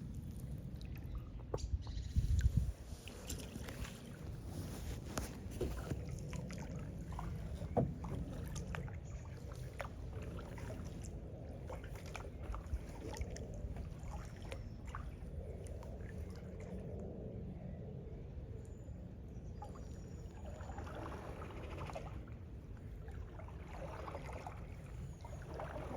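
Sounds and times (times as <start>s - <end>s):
paddle splashes and water drips: 0.0s - 17.3s, 18.6s - 25.9s
steady low rumble: 0.0s - 21.6s.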